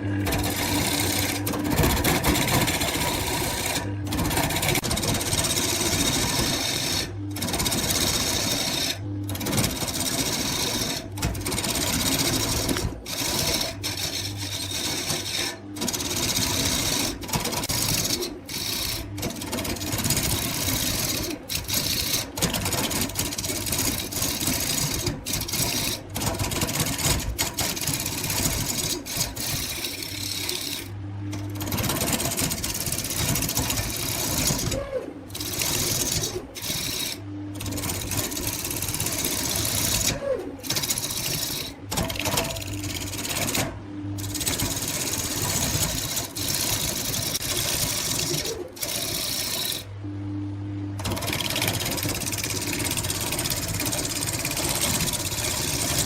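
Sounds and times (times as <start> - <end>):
tools cutting spinning wood: 0.0 - 49.9, 51.0 - 56.0
wood lathe whirring: 0.0 - 50.0, 51.0 - 56.0.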